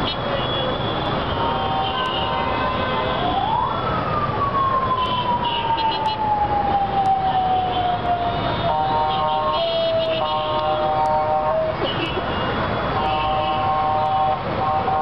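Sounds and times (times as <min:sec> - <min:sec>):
heavy street traffic: 0:00.0 - 0:15.0.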